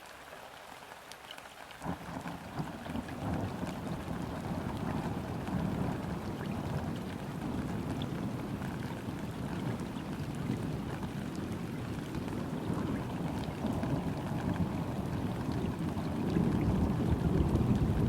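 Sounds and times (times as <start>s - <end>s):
flowing water: 0.0s - 18.0s
rain falling on river: 0.0s - 18.0s.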